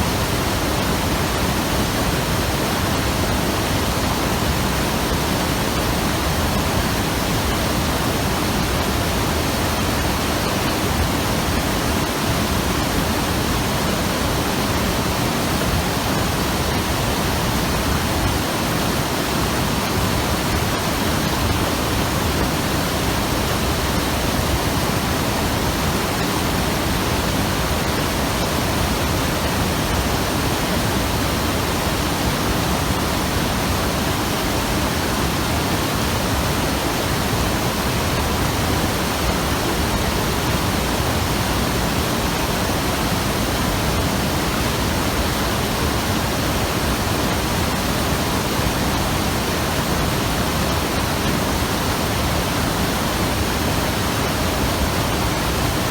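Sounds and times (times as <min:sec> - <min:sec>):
river rushing over rocks: 0:00.0 - 0:55.9.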